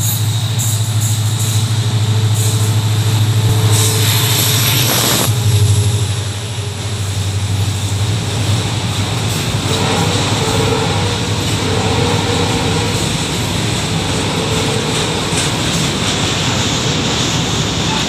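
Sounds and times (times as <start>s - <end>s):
diesel locomotive engine rumble: 0.0s - 18.0s
train wagons rolling: 0.0s - 18.0s.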